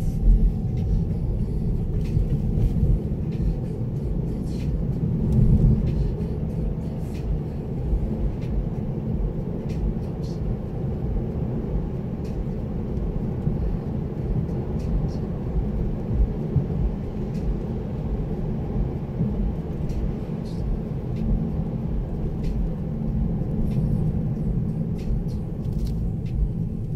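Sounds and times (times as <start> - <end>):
road and engine rumble: 0.0 - 26.9.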